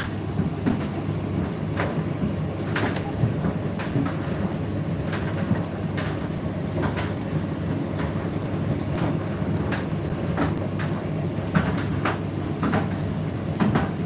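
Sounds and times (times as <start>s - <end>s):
tumble dryer humming: 0.0s - 14.0s.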